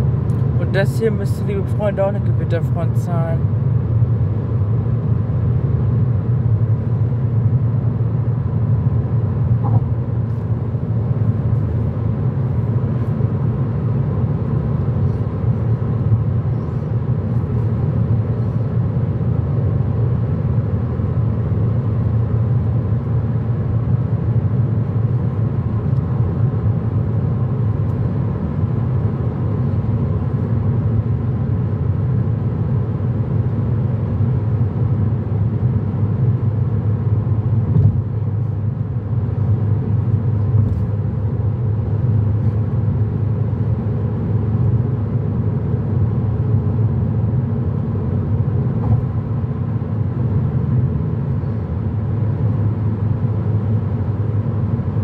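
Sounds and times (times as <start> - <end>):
car cabin road rumble: 0.0 - 55.0.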